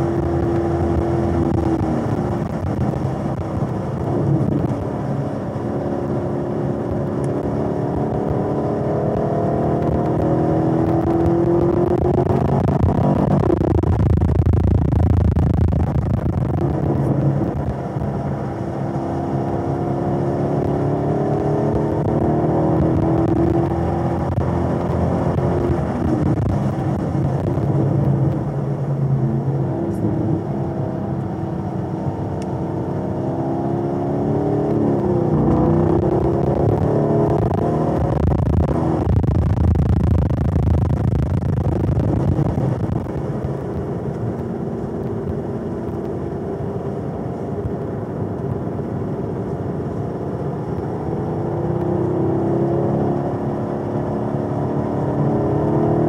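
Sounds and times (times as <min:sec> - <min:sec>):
car engine pulling from cabin: 0:00.0 - 0:56.0.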